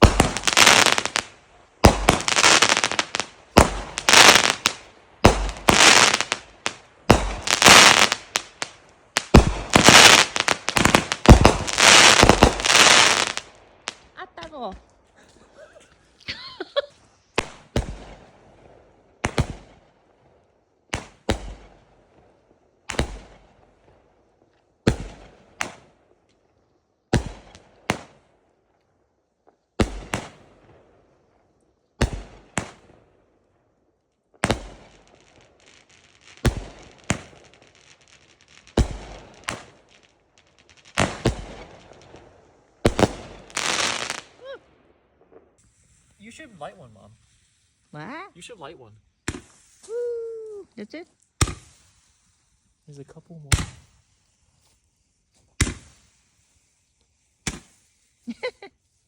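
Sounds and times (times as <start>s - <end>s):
fireworks bangs: 0.0s - 15.6s, 16.2s - 24.0s, 24.8s - 26.2s, 27.1s - 28.3s, 29.8s - 31.0s, 32.0s - 33.1s, 34.3s - 52.2s, 52.9s - 54.0s, 55.5s - 56.2s, 57.4s - 58.7s
fireworks crackling: 0.0s - 59.0s.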